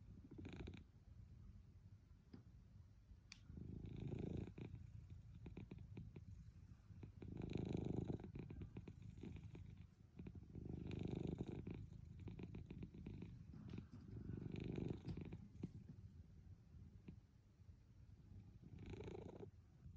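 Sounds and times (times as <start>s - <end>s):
cat purring: 0.1s - 0.9s, 3.4s - 17.6s, 18.2s - 19.9s.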